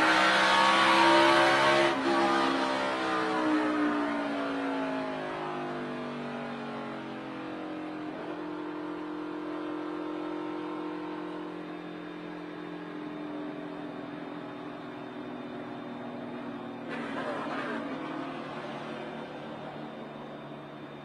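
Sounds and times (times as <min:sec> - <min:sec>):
race car engine at speed: 0:00.0 - 0:21.0.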